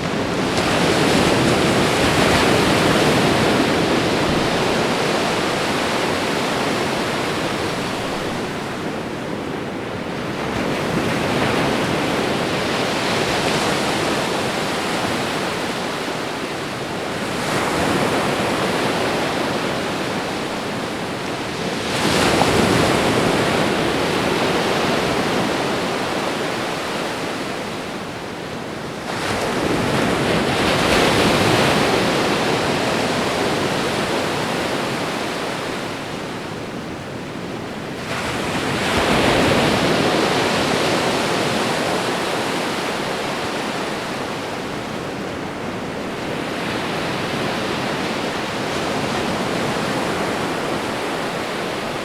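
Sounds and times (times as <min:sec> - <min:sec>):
ocean waves washing onto shore: 0:00.0 - 0:52.0.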